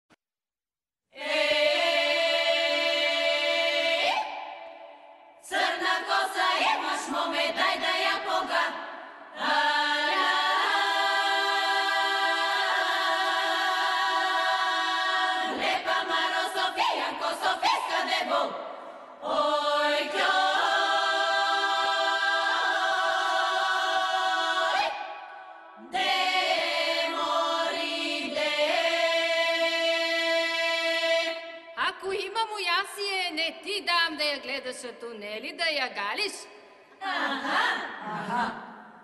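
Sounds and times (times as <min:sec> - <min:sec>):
women's choir singing a cappella: 0:01.1 - 0:31.8, 0:36.8 - 0:39.0.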